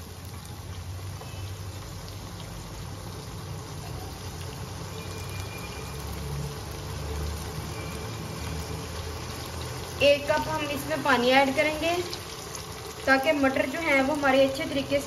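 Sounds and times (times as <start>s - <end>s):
potatoes sizzling and bubbling in wok: 0.0s - 15.0s.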